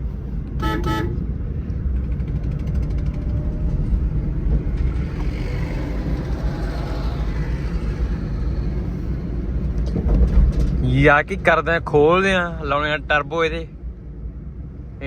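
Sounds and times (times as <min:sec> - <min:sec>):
tractor engine rumbling: 0:00.0 - 0:12.5.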